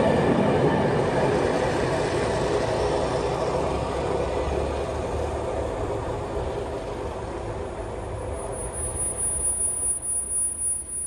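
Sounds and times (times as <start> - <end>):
high-pitched whine: 0.0 - 11.0
train low rumble: 0.0 - 11.0.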